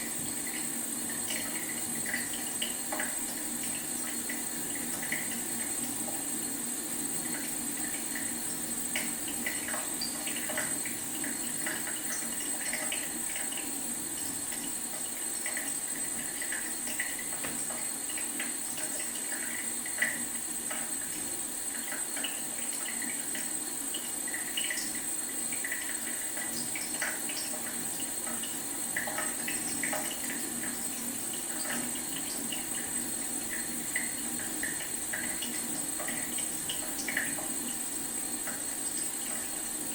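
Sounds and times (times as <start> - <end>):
faucet trickling and dripping: 0.0 - 39.9.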